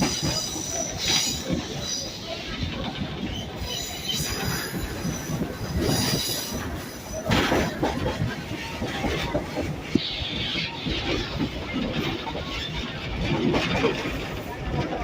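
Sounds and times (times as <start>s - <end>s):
train cars rumbling: 0.0s - 15.0s
wheels squealing on rails: 0.0s - 15.0s.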